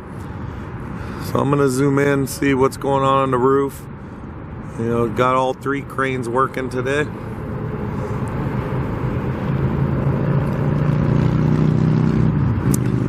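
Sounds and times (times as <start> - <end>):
vehicle engine hum and tyre noise: 0.0 - 13.0.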